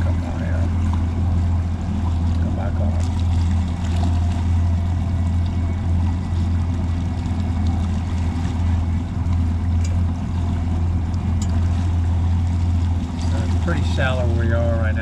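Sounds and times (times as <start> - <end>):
outboard engine drone: 0.0 - 15.0
water and wind rush: 0.0 - 15.0.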